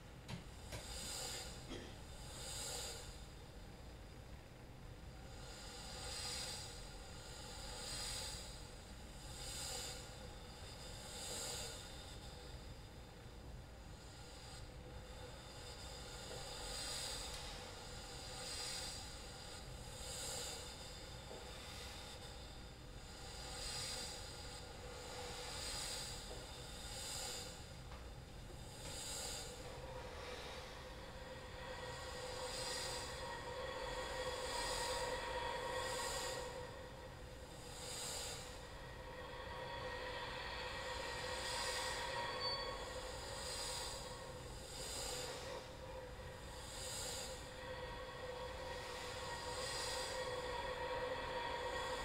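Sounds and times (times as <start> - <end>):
soft breathy hissing swells: 0.0 - 52.0.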